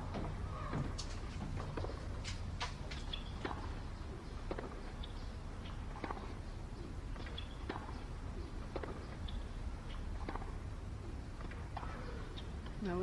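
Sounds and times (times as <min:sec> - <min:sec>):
slow footsteps: 0:00.0 - 0:12.8
low steady hum: 0:00.0 - 0:13.0.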